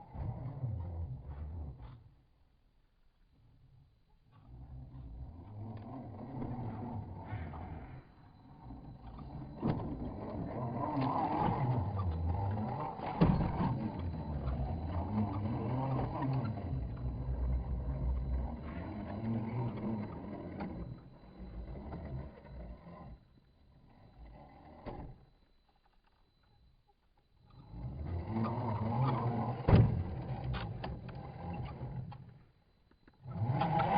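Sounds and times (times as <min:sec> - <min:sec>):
rc car electric motor whining: 0:04.2 - 0:33.9.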